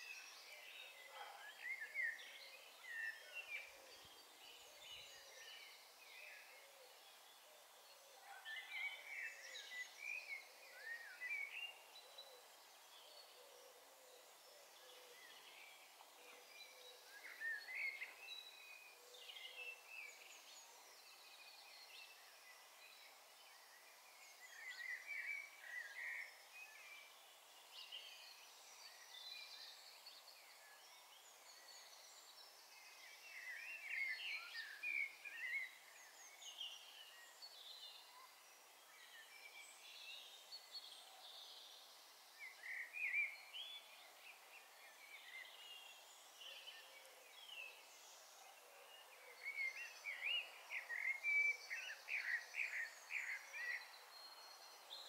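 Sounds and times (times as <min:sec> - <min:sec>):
faint steady hiss: 0:00.0 - 0:55.0
songbirds chirping and trilling: 0:00.0 - 0:55.0.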